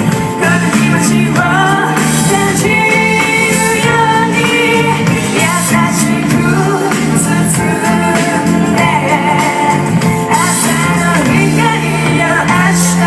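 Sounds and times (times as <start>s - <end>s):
band playing live music: 0.0s - 13.0s
person singing: 0.0s - 13.0s.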